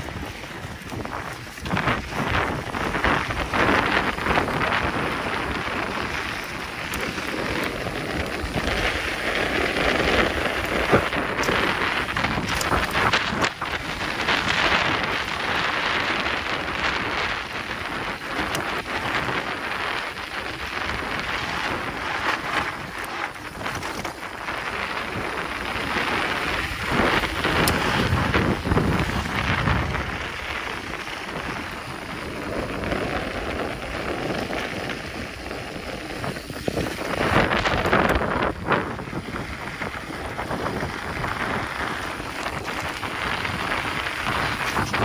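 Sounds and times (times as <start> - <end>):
bike rattling over rough ground: 0.0 - 45.0
bike tyre noise: 0.0 - 45.0
wind rushing over microphone: 0.0 - 45.0.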